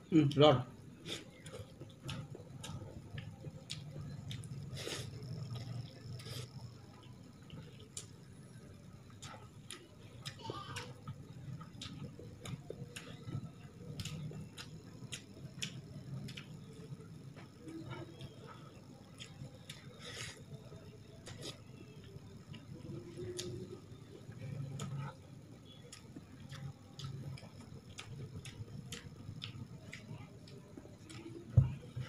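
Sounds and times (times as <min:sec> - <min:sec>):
low steady hum: 0:00.0 - 0:32.0
chewing and wet mouth clicks: 0:01.0 - 0:32.0.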